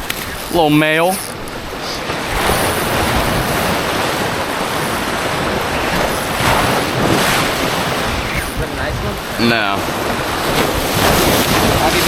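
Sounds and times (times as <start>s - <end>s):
waves washing: 0.0s - 12.0s
wind noise on microphone: 0.0s - 12.0s.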